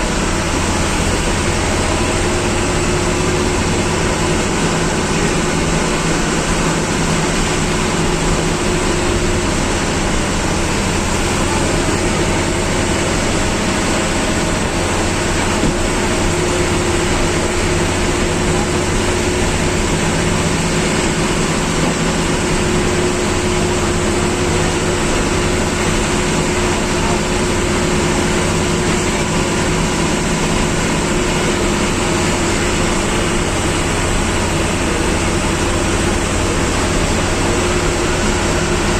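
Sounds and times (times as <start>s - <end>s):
diesel bus engine running: 0.0s - 38.9s.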